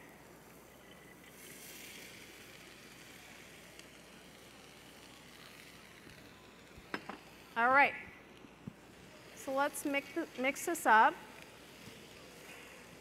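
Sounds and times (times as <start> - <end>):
beans sizzling in pot: 0.0 - 13.0.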